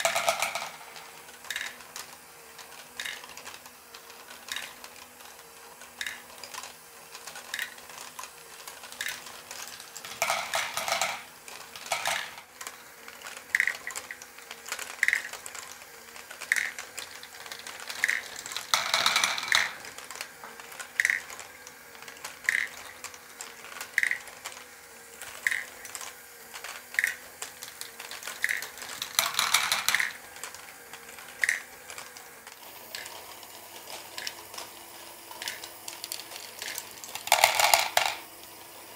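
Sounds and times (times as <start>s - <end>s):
faint motor hum: 0.0s - 38.9s
plastic balls rolling and clattering: 0.0s - 38.9s.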